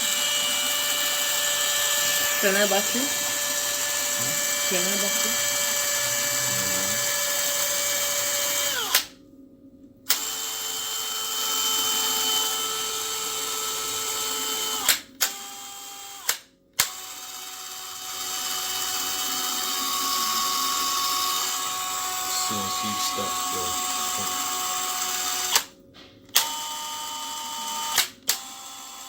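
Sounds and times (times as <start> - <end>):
hammer drill motor whine: 0.0 - 9.2, 10.1 - 25.7, 26.3 - 29.0.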